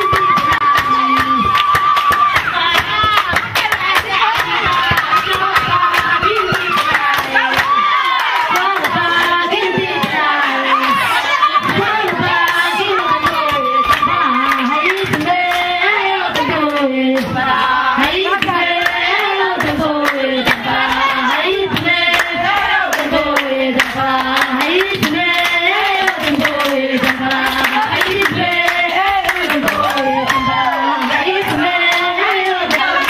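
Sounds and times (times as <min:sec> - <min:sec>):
rhythmic hand clapping: 0:00.0 - 0:33.0
woman singing into microphone: 0:00.0 - 0:33.0.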